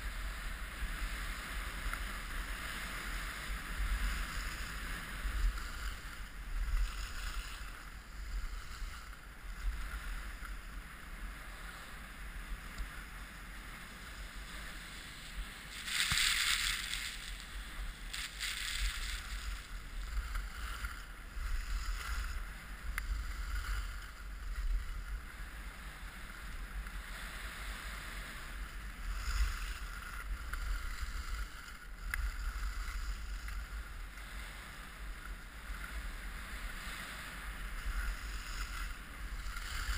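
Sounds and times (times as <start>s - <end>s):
skis scraping over packed snow: 0.0s - 39.9s
wind rumbling on microphone: 0.0s - 39.9s.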